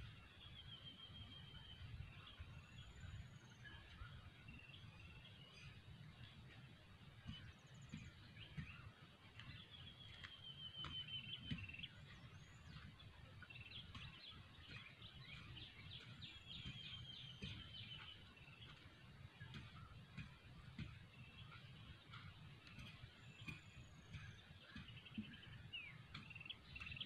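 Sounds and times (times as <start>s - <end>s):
songbird trills: 0.0s - 27.0s.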